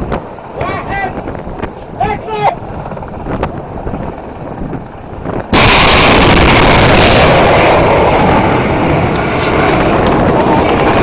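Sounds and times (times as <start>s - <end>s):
rocket launch roar: 0.0s - 11.0s.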